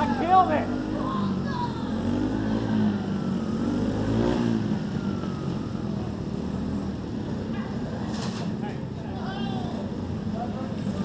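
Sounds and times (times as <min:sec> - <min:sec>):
pit bike engines revving: 0:00.0 - 0:11.0.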